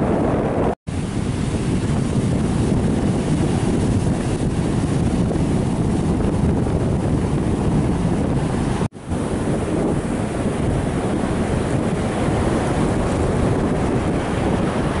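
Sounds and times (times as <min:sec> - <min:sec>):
wind buffeting microphone: 0:00.0 - 0:15.0
waves breaking on shore: 0:00.9 - 0:15.0.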